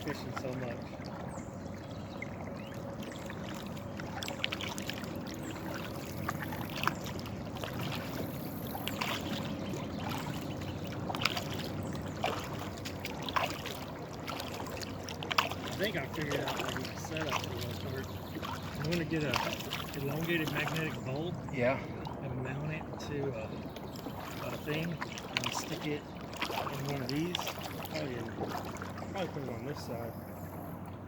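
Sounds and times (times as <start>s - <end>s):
water splashing around kayak hull: 0.0s - 31.0s.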